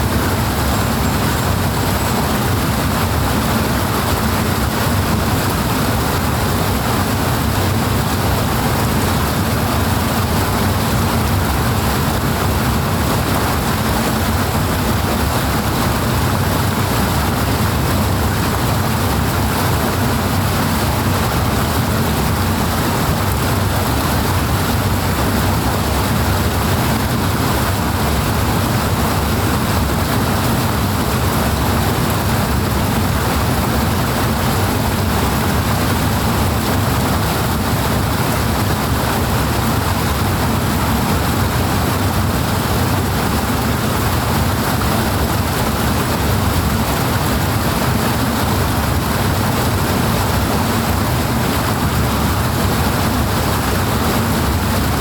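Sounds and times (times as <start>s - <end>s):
rushing flowing water: 0.0s - 55.0s.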